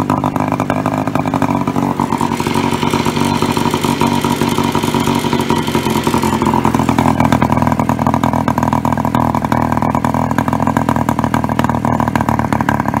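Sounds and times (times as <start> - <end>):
moped engine running: 0.0 - 13.0.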